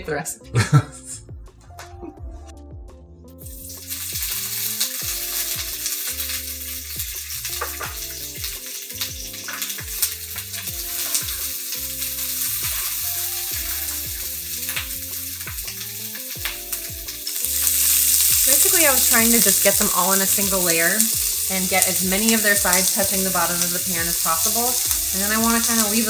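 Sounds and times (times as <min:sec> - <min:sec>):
soft background music: 0:00.0 - 0:26.0
peppers sizzling in hot oil: 0:03.4 - 0:26.0.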